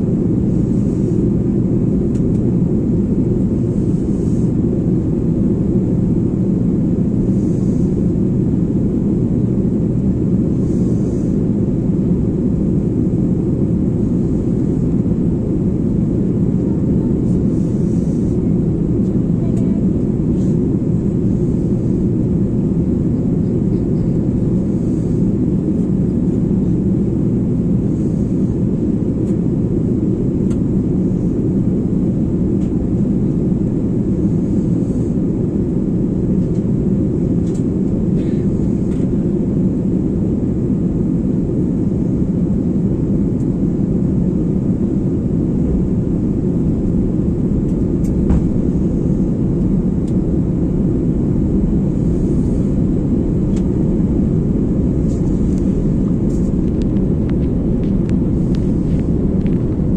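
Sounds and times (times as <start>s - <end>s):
airplane cabin engine roar: 0.0s - 59.9s.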